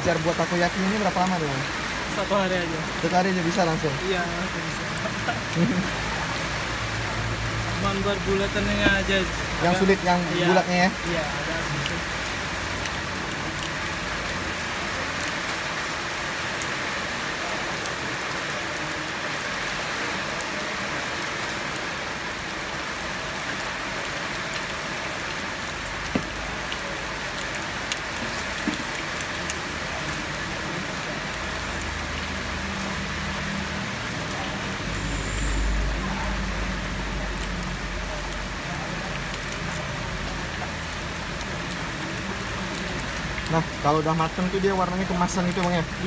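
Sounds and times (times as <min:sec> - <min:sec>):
heavy rain: 0:00.0 - 0:46.0.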